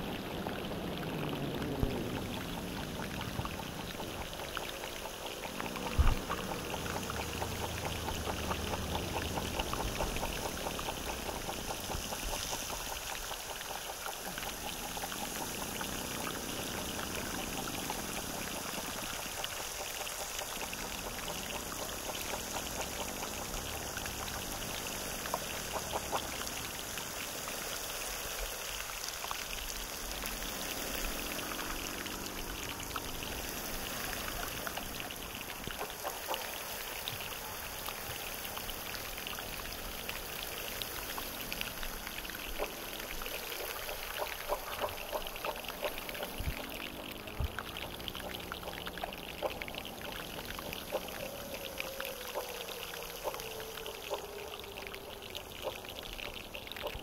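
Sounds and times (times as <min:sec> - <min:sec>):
running water trickling and splashing: 0:00.0 - 0:57.0.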